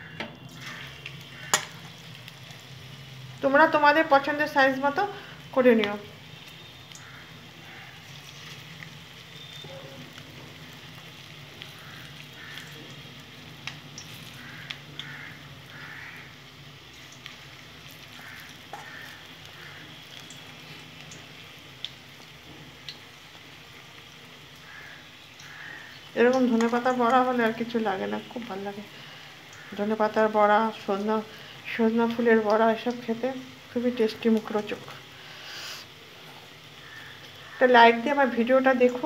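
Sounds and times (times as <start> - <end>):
fritters frying in hot oil: 0.0 - 39.0.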